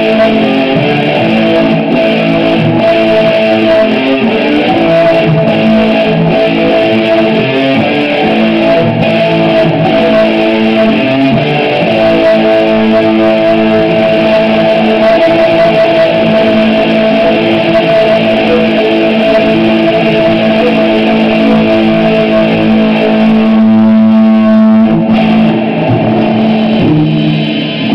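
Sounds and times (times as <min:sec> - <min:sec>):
loud guitar through amplifier: 0:00.0 - 0:27.9.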